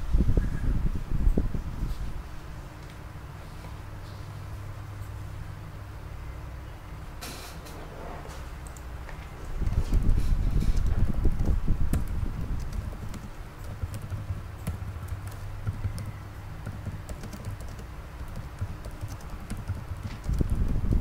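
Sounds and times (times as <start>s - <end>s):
low hum and rumble: 0.0s - 21.0s.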